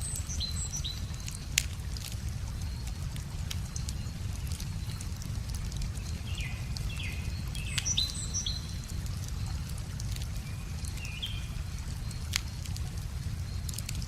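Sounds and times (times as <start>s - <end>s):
small birds chirping: 0.0s - 14.0s
wood fire crackling and popping: 0.0s - 14.0s.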